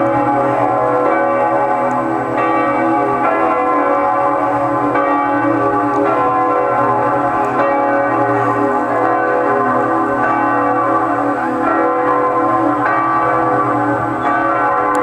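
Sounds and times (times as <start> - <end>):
large church bells ringing: 0.0 - 15.0.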